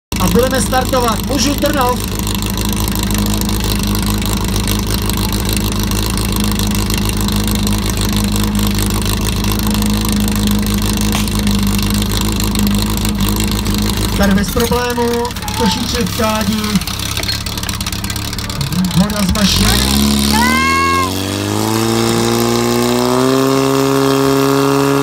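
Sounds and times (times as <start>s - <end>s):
fire pump engine running: 0.0s - 25.0s.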